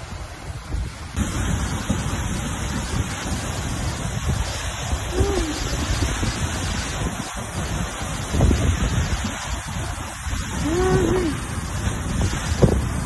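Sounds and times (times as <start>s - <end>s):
waterfall rushing onto rock: 0.0s - 13.0s.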